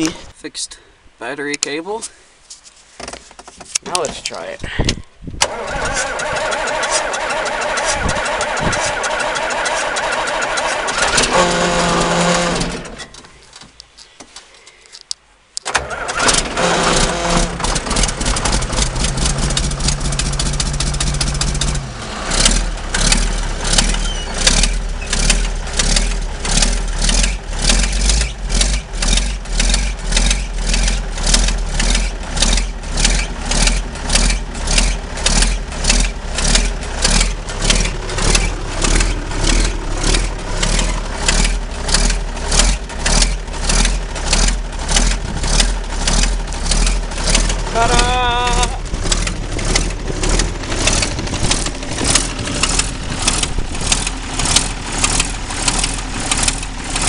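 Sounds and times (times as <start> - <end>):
diesel engine cranking: 3.8 - 14.0, 14.9 - 57.0
diesel engine running: 4.7 - 13.2, 15.7 - 57.0.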